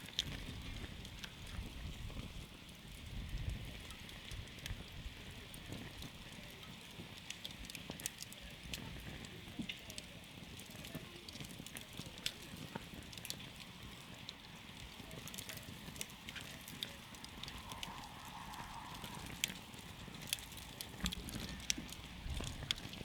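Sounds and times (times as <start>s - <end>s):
campfire crackling and popping: 0.0s - 23.0s
low fire hiss: 0.0s - 23.0s.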